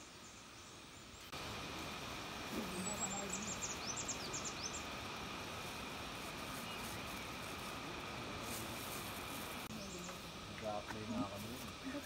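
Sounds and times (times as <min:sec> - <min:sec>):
even outdoor hiss: 0:00.0 - 0:12.0.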